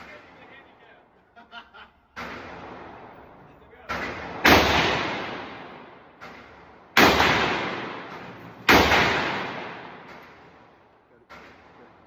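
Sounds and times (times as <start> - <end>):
gunshots with echo: 2.2 - 12.0.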